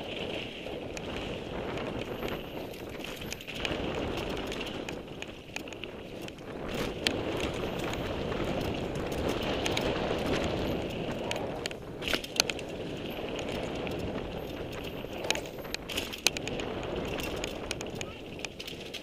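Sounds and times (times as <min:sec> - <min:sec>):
bike rattling on landing: 0:00.0 - 0:19.0
tyres rolling on dirt: 0:00.0 - 0:19.0.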